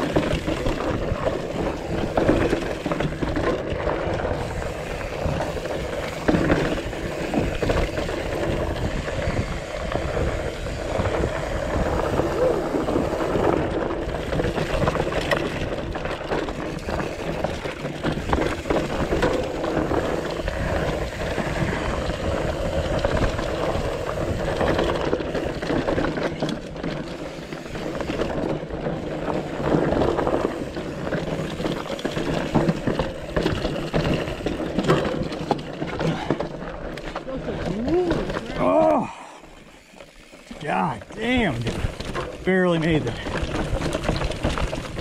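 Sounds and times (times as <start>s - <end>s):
bike tyres rolling rumble: 0.0s - 45.0s.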